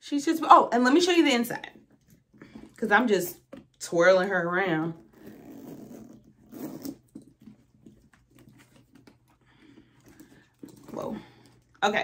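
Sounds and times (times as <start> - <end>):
leather handbag rustling and knocking: 1.6 - 11.8.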